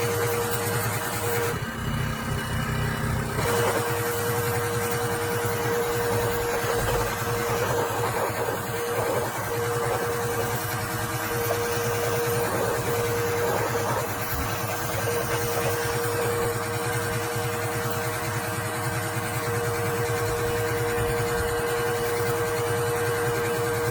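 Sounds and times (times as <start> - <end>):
pressure washer pump hum: 0.0 - 23.9.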